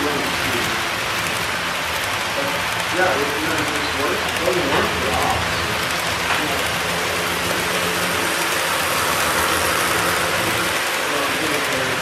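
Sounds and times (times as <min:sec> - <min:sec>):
model train wheels rolling on rails: 0:00.0 - 0:12.0.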